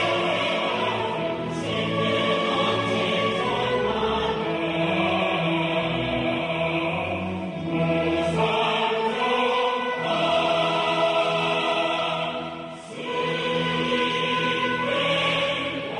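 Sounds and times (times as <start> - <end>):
opera chorus singing: 0.0 - 15.9.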